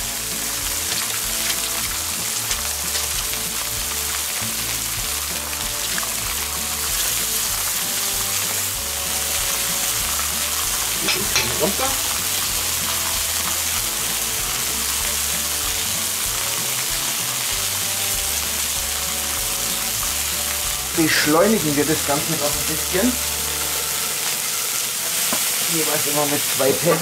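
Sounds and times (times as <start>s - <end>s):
meat sizzling on griddle: 0.0s - 27.0s.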